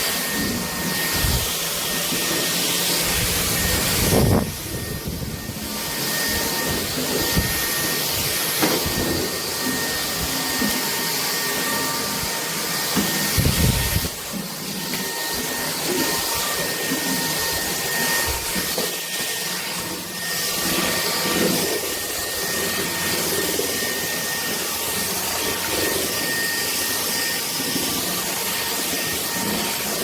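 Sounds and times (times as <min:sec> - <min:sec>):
stick vacuum running: 0:00.0 - 0:30.0.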